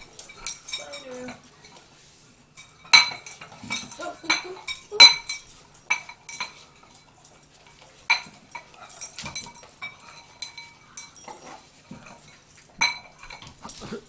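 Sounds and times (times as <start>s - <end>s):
food bowl clinking: 0.0s - 14.0s.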